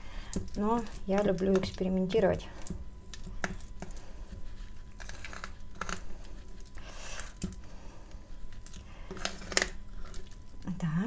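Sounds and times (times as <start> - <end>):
clay crinkling and crunching: 0.2 - 11.0.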